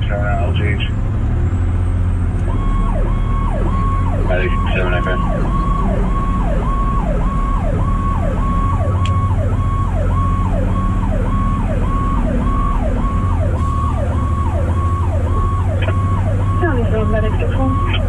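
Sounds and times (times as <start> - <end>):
low engine drone: 0.0 - 18.0
fire truck siren cycling: 1.5 - 18.0.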